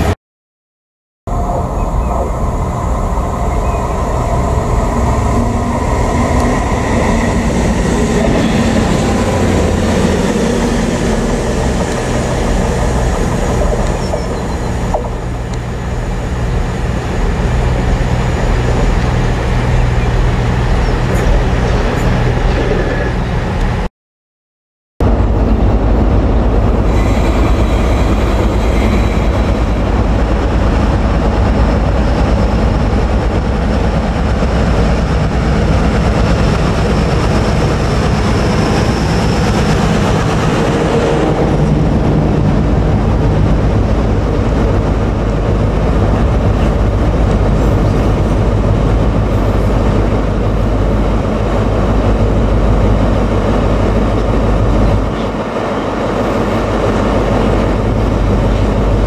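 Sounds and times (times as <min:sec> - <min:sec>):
diesel locomotive passing: 0:01.3 - 0:23.9, 0:25.0 - 0:59.0
train wagons rumbling and clattering: 0:01.3 - 0:23.9, 0:25.0 - 0:59.0.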